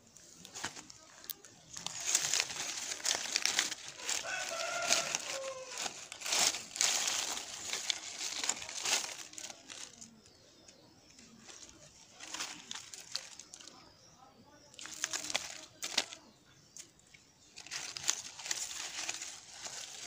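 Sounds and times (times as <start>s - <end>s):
dry leaves crackling: 0.0s - 20.0s.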